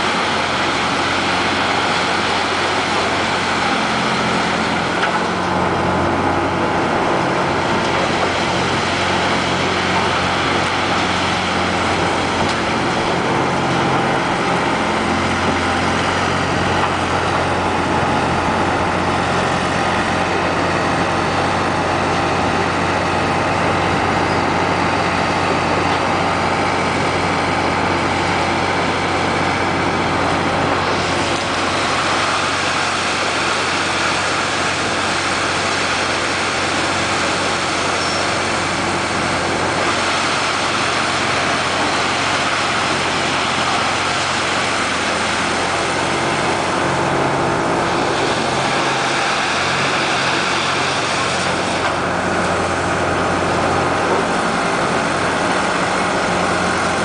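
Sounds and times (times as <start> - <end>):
log loader engine running: 0.0 - 57.0.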